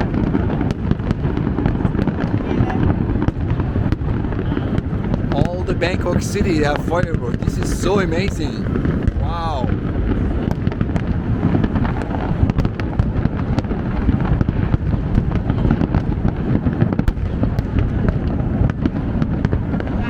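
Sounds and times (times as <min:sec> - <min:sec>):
distant firework booms: 0:00.0 - 0:20.0
sharp firework cracks: 0:00.0 - 0:20.0.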